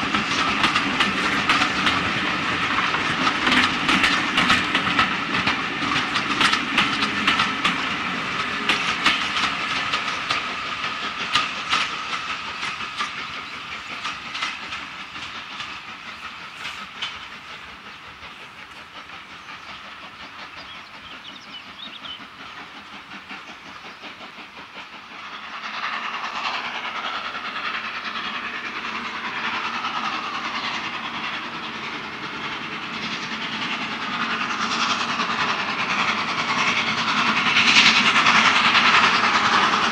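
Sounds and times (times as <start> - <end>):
approaching steam locomotive: 0.0 - 39.9
train wheels clicking over rail joints: 0.0 - 39.9.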